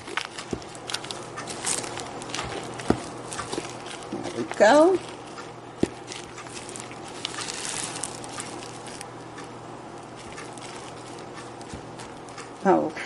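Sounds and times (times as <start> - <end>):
spoon stirring thick batter: 0.0 - 9.4, 10.0 - 12.6.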